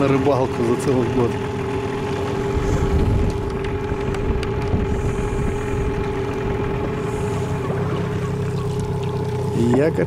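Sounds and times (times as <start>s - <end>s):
outboard boat motor idling: 0.0s - 10.0s.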